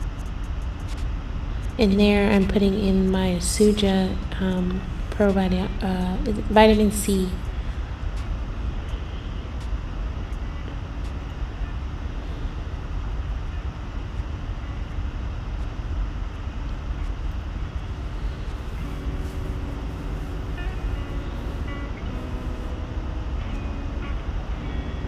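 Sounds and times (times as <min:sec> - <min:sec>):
low rumbling background noise: 0:00.0 - 0:25.0
faint steady tones: 0:01.8 - 0:14.9, 0:17.8 - 0:25.0.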